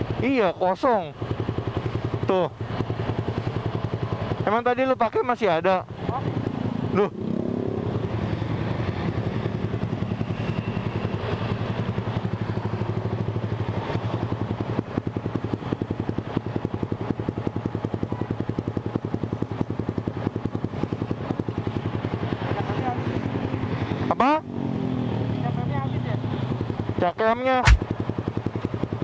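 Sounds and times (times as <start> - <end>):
motorcycle engine idling: 0.0 - 27.1.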